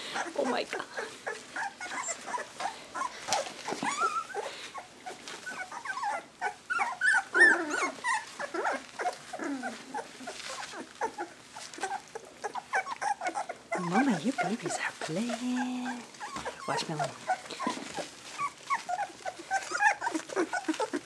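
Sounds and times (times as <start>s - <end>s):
puppies growling and whimpering: 0.0s - 21.0s.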